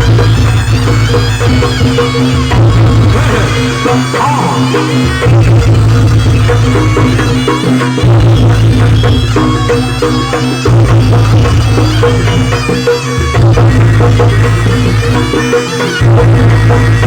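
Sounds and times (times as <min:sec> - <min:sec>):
drums beating a driving rhythm: 0:00.0 - 0:17.0
reedy wind instrument: 0:00.0 - 0:17.0.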